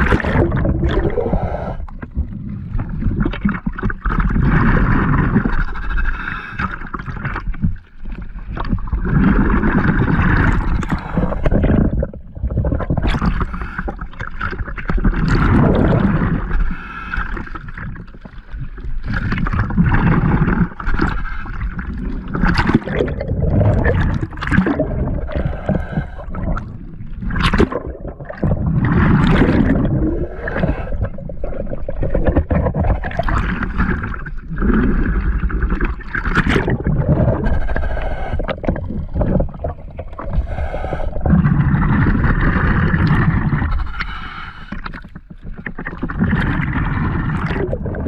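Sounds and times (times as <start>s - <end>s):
muffled underwater water sloshing: 0.0s - 48.0s.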